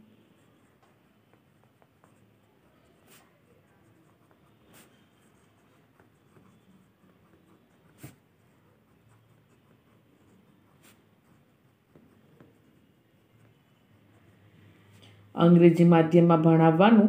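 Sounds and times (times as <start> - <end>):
pen scratching on paper: 0.0 - 14.6.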